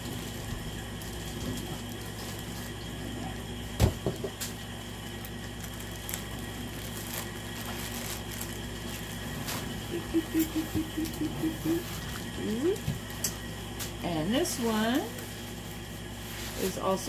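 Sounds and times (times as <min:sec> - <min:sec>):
steady room hum: 0:00.0 - 0:17.0.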